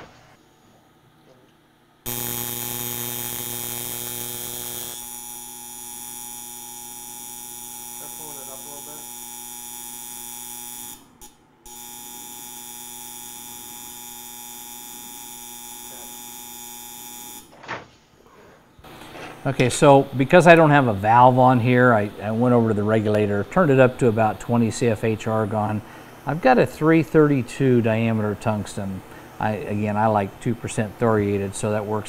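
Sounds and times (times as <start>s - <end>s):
welder high-frequency buzz: 2.0s - 17.5s, 18.8s - 32.0s.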